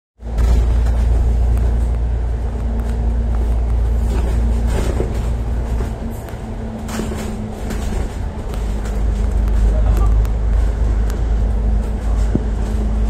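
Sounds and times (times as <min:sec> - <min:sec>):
constant low hum: 0:00.2 - 0:13.0
vehicle rumble from inside: 0:00.2 - 0:13.0.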